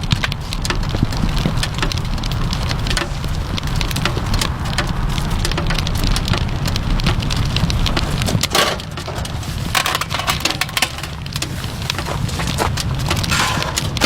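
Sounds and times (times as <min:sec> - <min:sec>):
raindrops ticking on a surface: 0:00.0 - 0:14.0
steady low rumble: 0:00.0 - 0:14.0.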